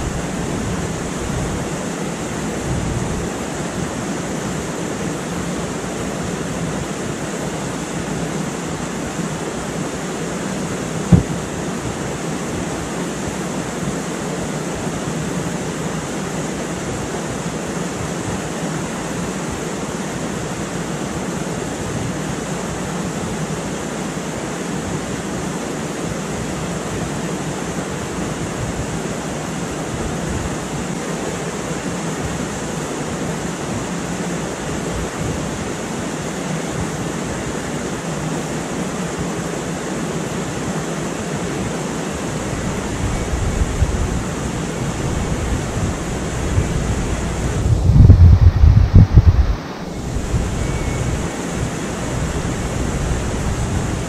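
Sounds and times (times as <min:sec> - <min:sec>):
river rapids rushing: 0:00.0 - 0:54.0.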